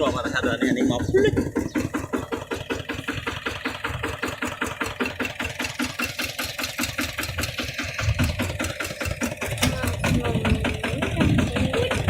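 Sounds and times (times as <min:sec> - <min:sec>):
single-cylinder diesel engine running: 0:00.0 - 0:12.0.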